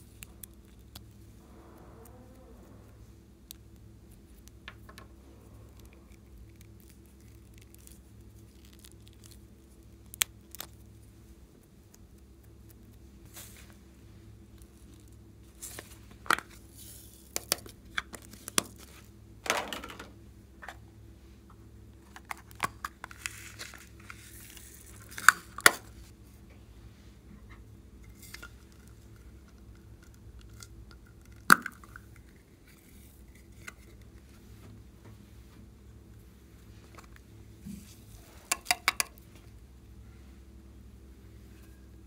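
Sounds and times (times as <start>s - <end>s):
rustling and crinkling: 0.0s - 20.8s, 21.4s - 26.5s, 27.1s - 38.6s
steady low hum: 0.0s - 42.0s.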